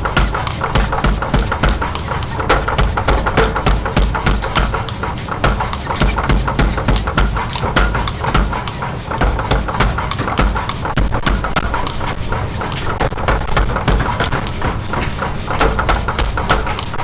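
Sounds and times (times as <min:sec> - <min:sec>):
metal clanks: 0:00.0 - 0:17.0
power hammer thuds: 0:00.0 - 0:17.0.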